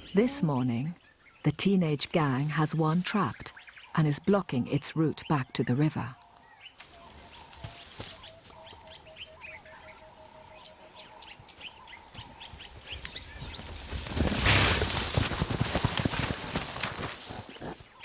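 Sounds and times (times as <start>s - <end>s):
small birds chirping: 0.0s - 14.9s, 15.8s - 18.0s.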